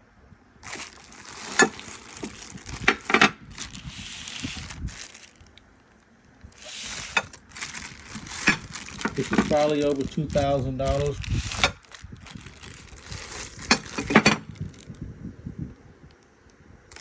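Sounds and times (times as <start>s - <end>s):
packaging rustling and crackling: 0.6s - 15.0s.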